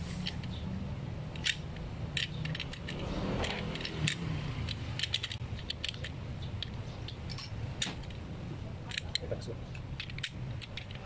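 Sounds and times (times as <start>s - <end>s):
socket wrench clicking: 1.3s - 8.2s, 8.9s - 11.0s.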